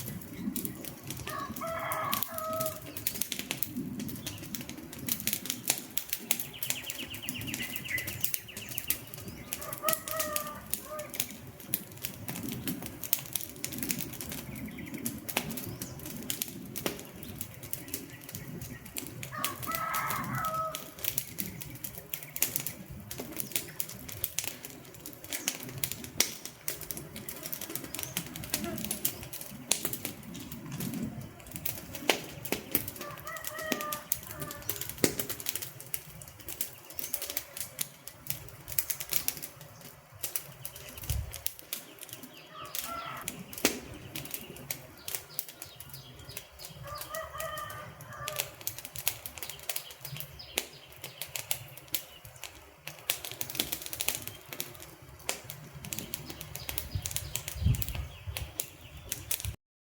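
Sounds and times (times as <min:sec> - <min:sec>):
wood fire crackling and popping: 0:00.0 - 0:59.6.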